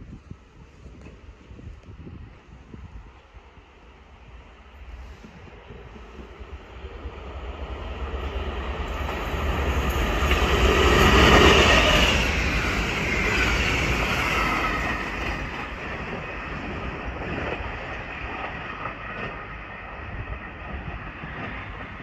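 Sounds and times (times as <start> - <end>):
diesel locomotive passing: 0.2 - 22.0.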